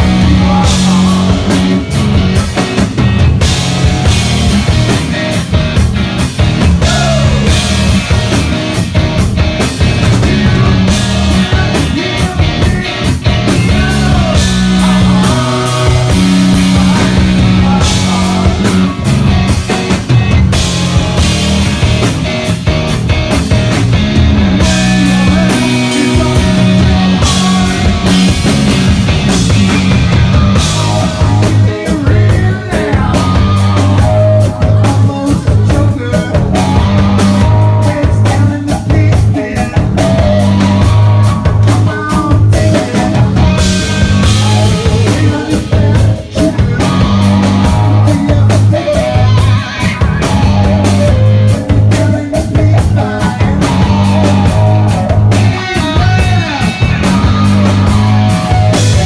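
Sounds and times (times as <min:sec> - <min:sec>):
drum kit: 0:00.0 - 0:59.0
electric guitar: 0:00.0 - 0:59.0
rock band playing loudly: 0:00.0 - 0:59.0.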